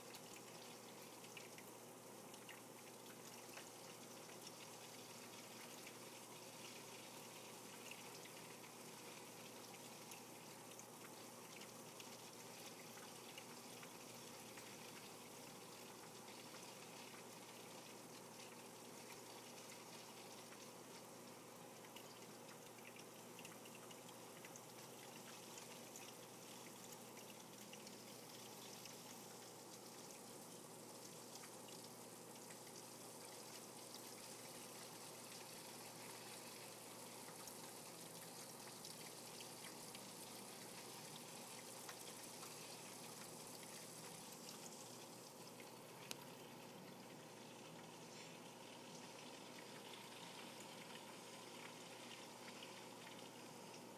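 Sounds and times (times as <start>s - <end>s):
water trickling in fish tank: 0.0s - 53.9s.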